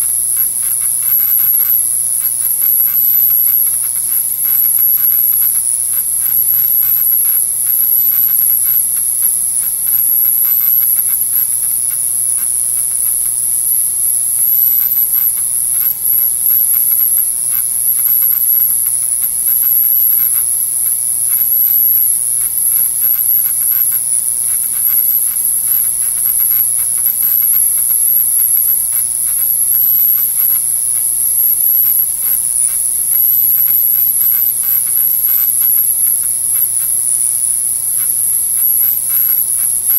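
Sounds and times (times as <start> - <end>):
high-pitched cleaner whine: 0.0 - 39.9.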